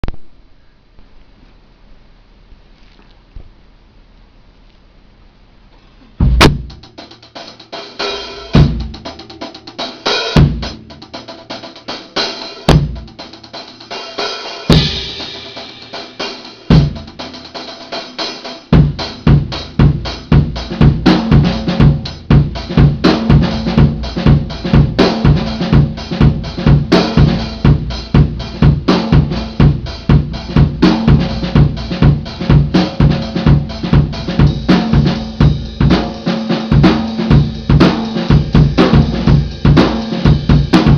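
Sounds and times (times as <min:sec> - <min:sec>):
drum kit playing: 0:06.2 - 0:40.9.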